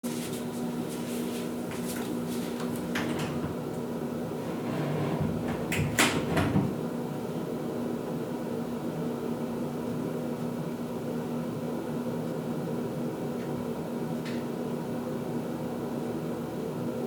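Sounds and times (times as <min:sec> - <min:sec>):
ventilation fan humming: 0:00.0 - 0:17.0.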